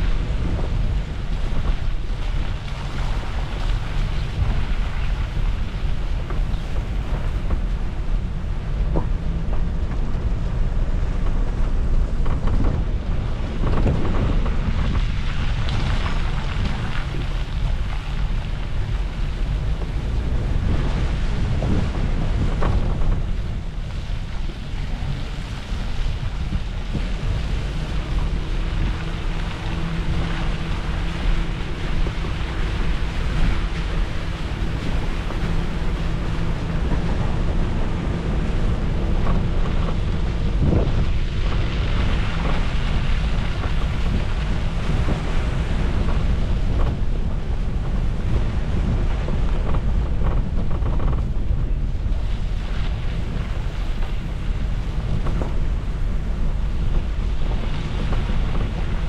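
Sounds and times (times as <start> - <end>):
faint engine hum: 0.0 - 59.0
vehicle rumble: 0.0 - 59.0
wind buffeting microphone: 0.0 - 59.0.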